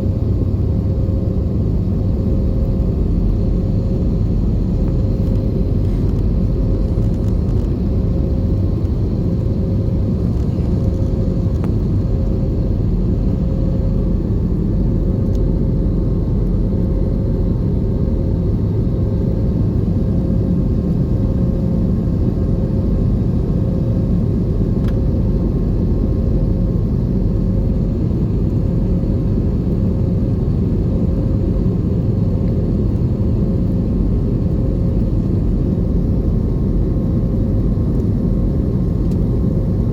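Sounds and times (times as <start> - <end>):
aircraft engines droning in cabin: 0.0 - 39.9
faint constant hum: 0.0 - 39.9.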